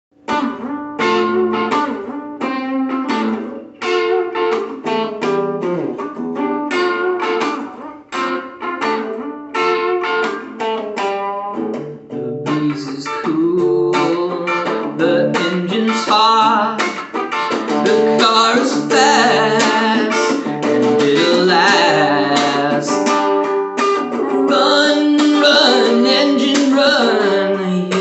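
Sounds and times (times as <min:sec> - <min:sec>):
guitar plucking and strumming: 0:00.2 - 0:28.0.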